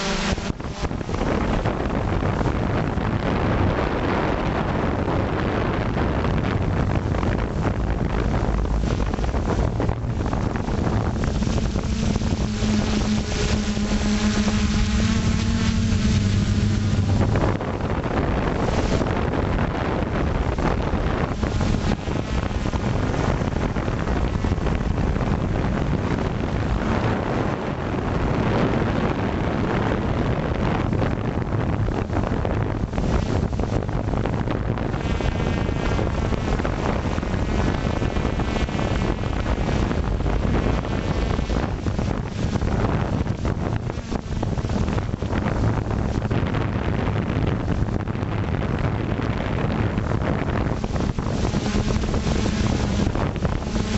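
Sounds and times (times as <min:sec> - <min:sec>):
drone motors and propellers: 0:00.0 - 0:53.9
thin high whine: 0:00.0 - 0:53.9
wind buffeting microphone: 0:00.0 - 0:53.9.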